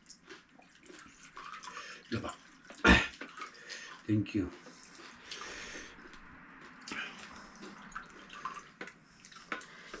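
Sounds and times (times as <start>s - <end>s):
water dripping and trickling: 0.0s - 10.0s.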